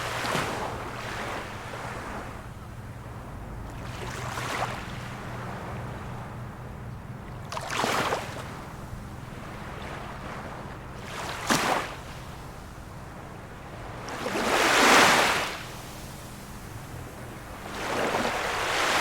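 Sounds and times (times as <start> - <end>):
small waves lapping on shore: 0.0 - 19.0.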